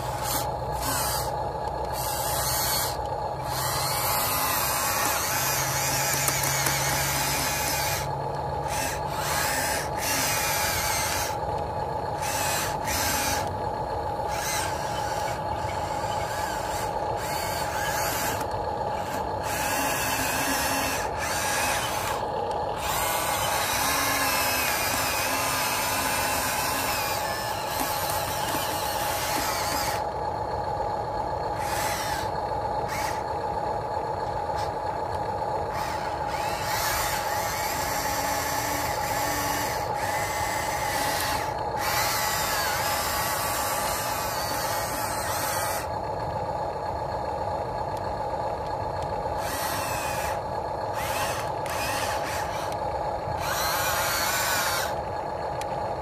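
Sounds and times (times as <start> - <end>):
electric motors whining: 0.0 - 56.0
rough high gear whine: 0.0 - 56.0.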